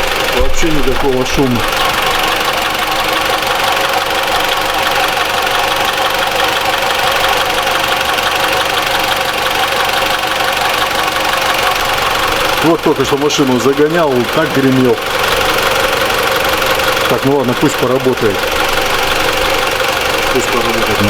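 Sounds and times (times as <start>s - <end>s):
car engine idling with ticking: 0.0s - 21.0s.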